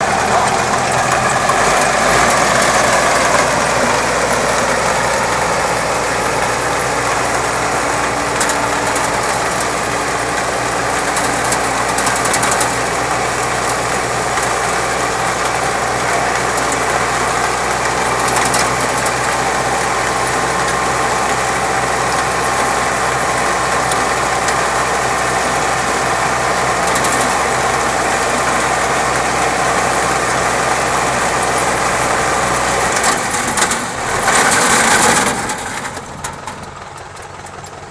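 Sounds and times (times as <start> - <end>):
harvester rattling: 0.0 - 37.9
tractor engine drone: 0.0 - 37.9.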